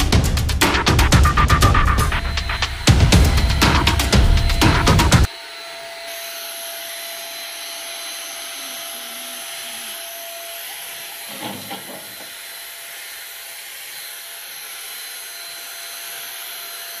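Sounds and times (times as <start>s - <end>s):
paint spray gun running: 0.8s - 17.0s.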